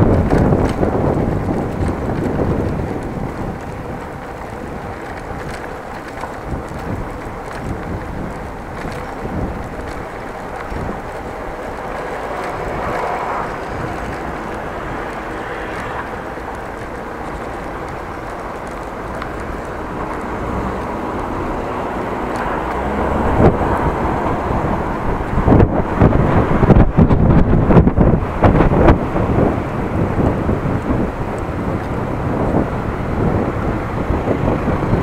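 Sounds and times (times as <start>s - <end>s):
road noise: 0.0s - 35.0s
wind buffeting the microphone: 0.0s - 35.0s.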